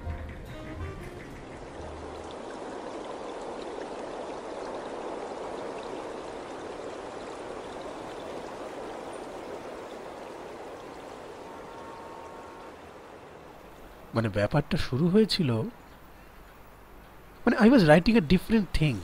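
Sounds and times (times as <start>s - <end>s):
water-like rushing noise: 1.2s - 19.0s.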